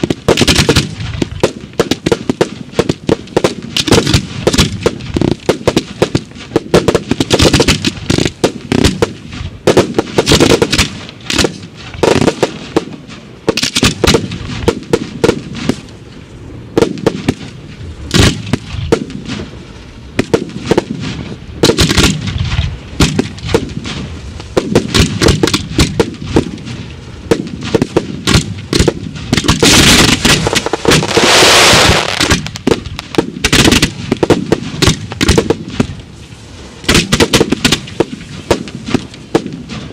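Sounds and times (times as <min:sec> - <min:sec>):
fireworks bangs: 0:00.0 - 0:39.9
fireworks rush: 0:00.0 - 0:39.9.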